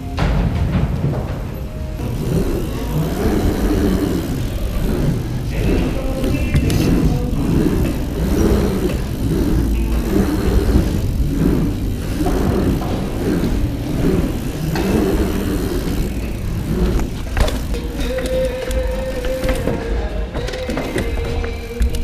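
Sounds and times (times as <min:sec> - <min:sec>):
bike tyres rumbling: 0:00.0 - 0:22.0.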